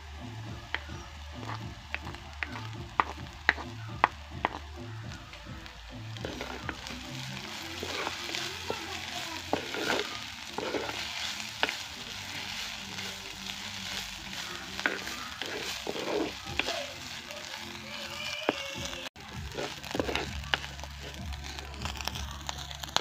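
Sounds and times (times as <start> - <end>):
shrimp sizzling in a pot: 0.0 - 23.0
wooden spoon scraping a pot: 0.7 - 4.9, 6.2 - 21.8.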